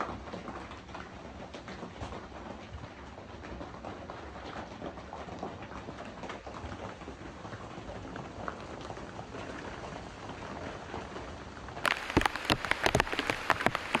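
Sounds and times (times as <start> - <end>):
raindrops tapping close by: 0.0 - 14.0
steady rain: 0.0 - 14.0.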